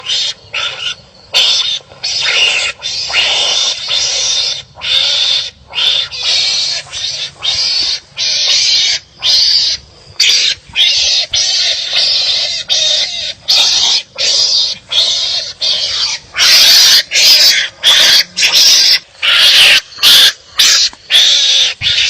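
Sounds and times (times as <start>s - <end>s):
animals giving rasping calls: 0.0s - 22.0s.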